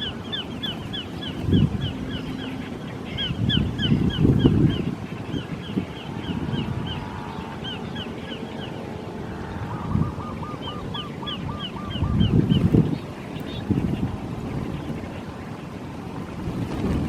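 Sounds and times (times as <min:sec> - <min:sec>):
birds calling: 0:00.0 - 0:16.6.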